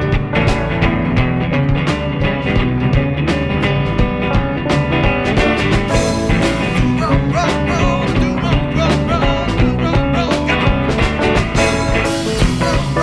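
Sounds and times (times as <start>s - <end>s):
bending lead guitar line: 0.0s - 13.0s
rock music: 0.0s - 13.0s.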